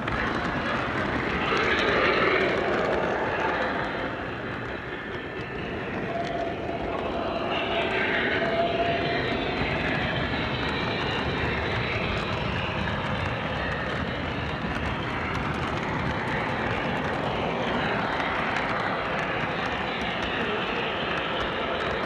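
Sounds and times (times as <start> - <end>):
model train rumbling on track: 0.0 - 22.0.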